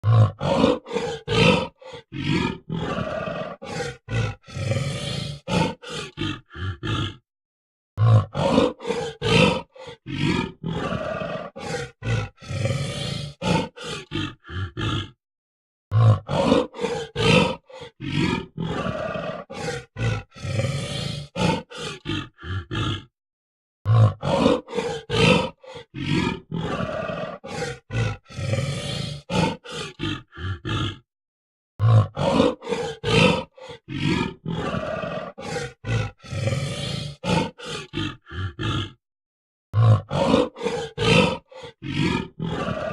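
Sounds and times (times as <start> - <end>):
gorilla roaring: 0.0 - 7.2, 8.0 - 15.2, 15.9 - 23.1, 23.9 - 31.1, 31.8 - 39.0, 39.8 - 42.9.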